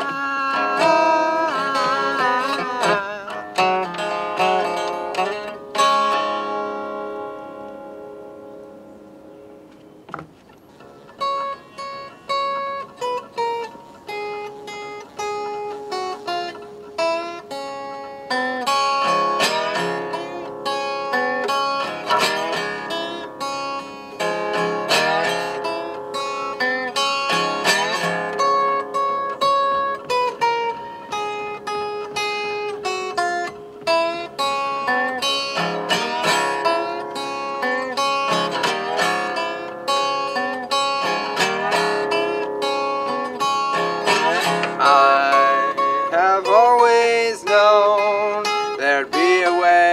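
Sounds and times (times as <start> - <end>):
fingerpicked resonator guitar blues: 0.0 - 49.9.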